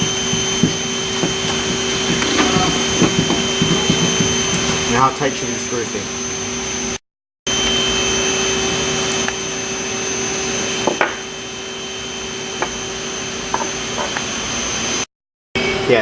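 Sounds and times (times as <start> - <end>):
high whine: 0.0 - 16.0
workshop machinery drone: 0.0 - 16.0.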